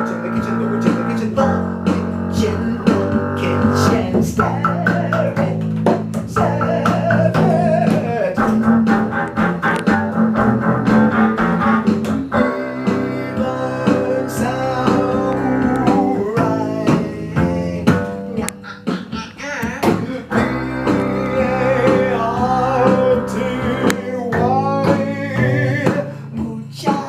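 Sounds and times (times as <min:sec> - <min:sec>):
man singing: 0:00.0 - 0:10.4, 0:12.3 - 0:27.0
bowed double bass: 0:00.0 - 0:26.7.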